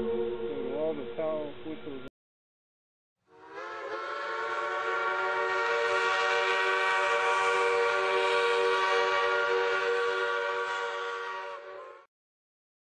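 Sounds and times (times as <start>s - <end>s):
steam whistle blast: 0.0s - 1.6s, 3.3s - 12.1s.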